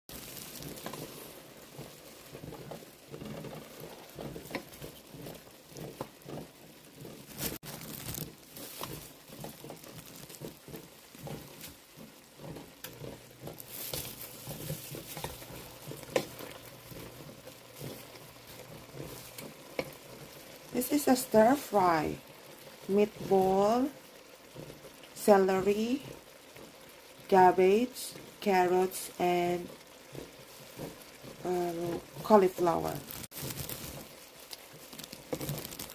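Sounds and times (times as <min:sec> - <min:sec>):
light sizzle: 0:00.1 - 0:35.9
utensil stirring in a pan: 0:00.1 - 0:35.9.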